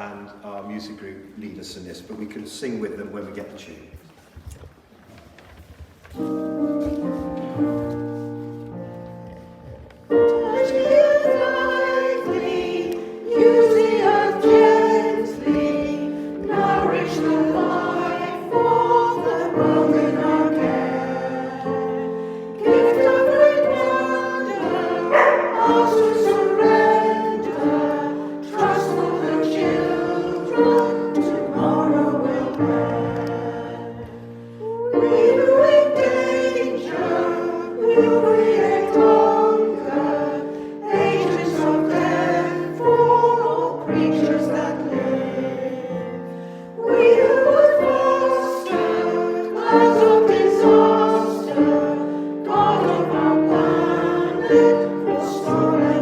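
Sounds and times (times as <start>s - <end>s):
instrumental accompaniment: 6.0s - 56.0s
choir singing a hymn: 6.1s - 56.0s.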